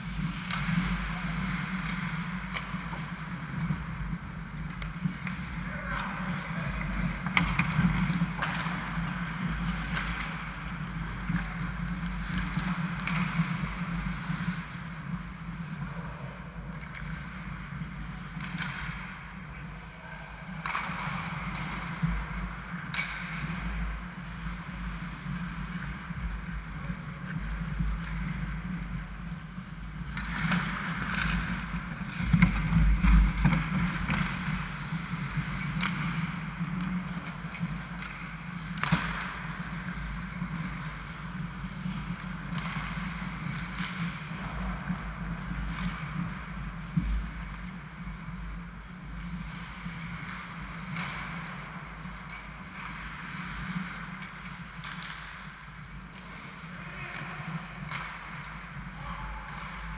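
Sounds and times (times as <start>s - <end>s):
skate blades scraping on ice: 0.0s - 59.9s
steady low hum: 0.0s - 59.9s.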